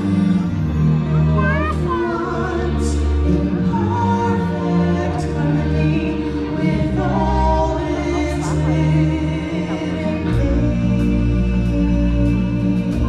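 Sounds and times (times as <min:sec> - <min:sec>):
choir singing held notes: 0:00.0 - 0:13.0.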